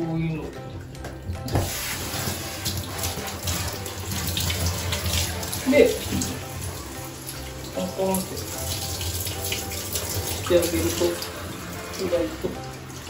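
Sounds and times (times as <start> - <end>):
water spraying from shower head: 1.5 - 13.0.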